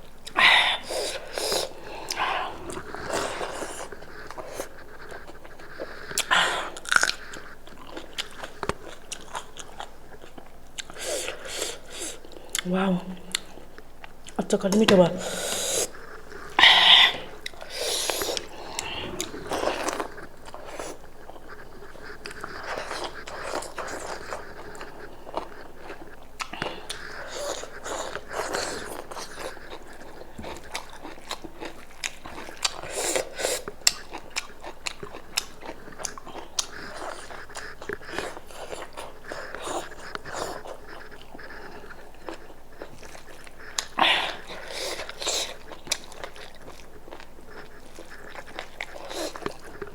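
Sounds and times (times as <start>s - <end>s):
chewing and biting food: 0.0s - 49.9s
crunching and slurping: 0.0s - 49.9s.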